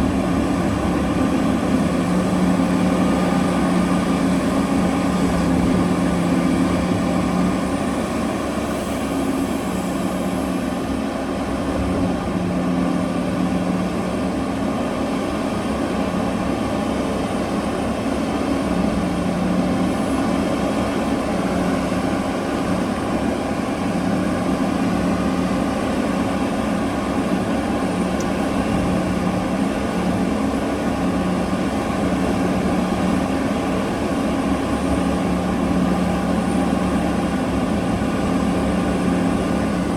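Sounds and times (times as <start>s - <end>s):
heavy machinery engine drone: 0.0s - 39.9s.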